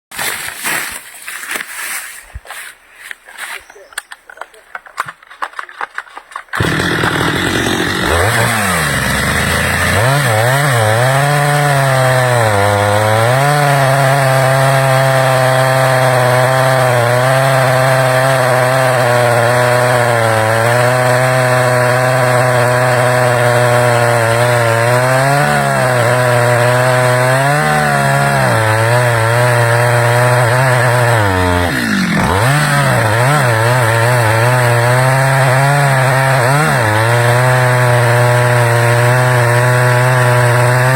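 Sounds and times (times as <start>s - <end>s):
chainsaw cutting wood: 5.0s - 40.9s.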